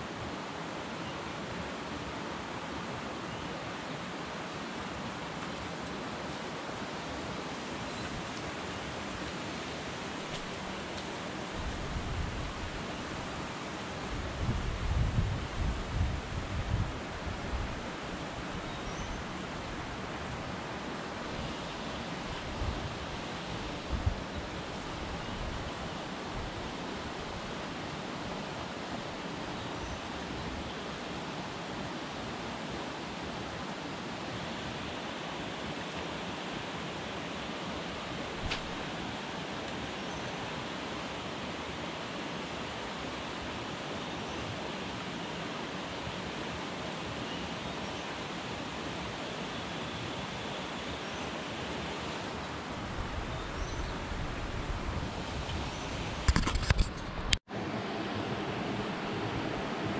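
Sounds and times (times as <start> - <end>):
outdoor background hiss: 0.0 - 59.9.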